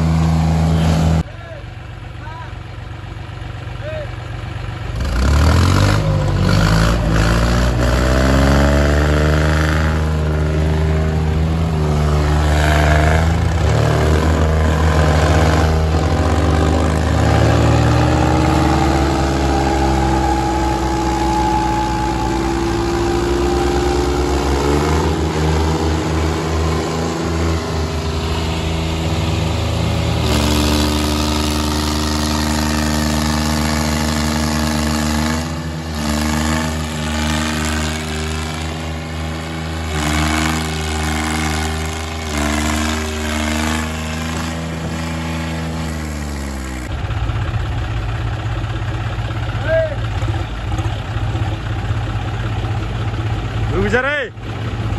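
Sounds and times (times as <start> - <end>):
tractor diesel engines under load: 0.0 - 54.9.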